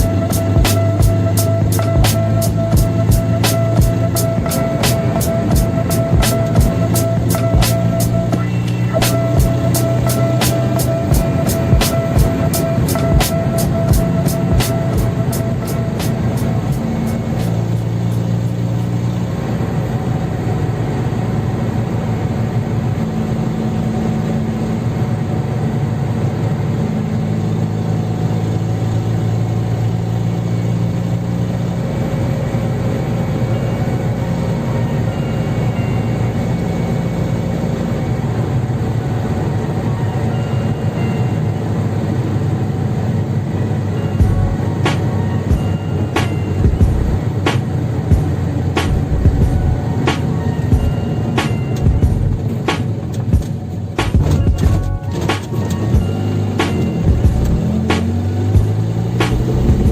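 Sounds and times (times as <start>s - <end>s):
car engine running: 0.0s - 35.5s, 36.1s - 59.9s.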